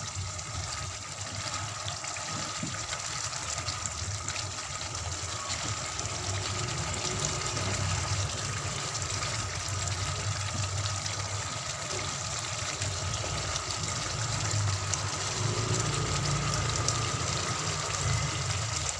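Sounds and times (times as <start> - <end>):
sauce bubbling in a frying pan: 0.0 - 18.9.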